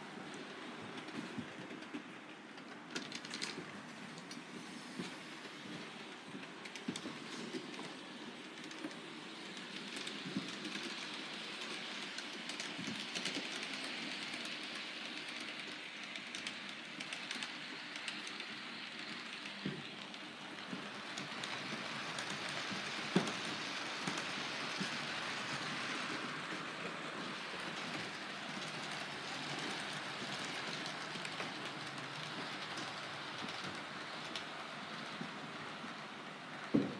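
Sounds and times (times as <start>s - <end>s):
model train wheels whirring: 0.0s - 36.9s.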